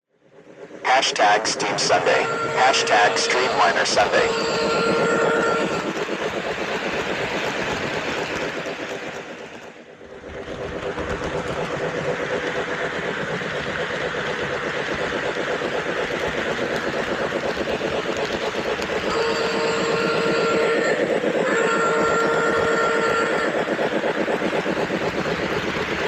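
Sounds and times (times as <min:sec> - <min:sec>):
model train whirring and rattling: 0:00.3 - 0:26.0.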